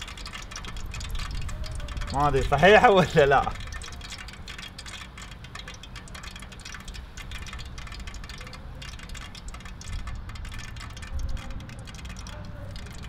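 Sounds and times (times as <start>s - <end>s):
gas burner low rumble: 0.0s - 13.0s.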